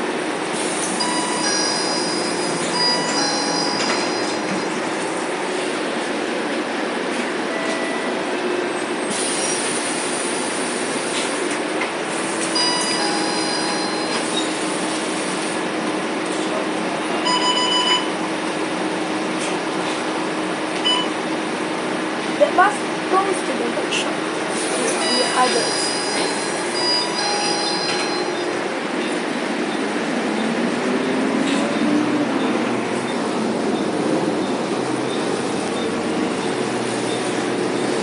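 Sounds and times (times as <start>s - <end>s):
bus diesel engine: 0.0s - 38.0s
road noise: 0.0s - 38.0s.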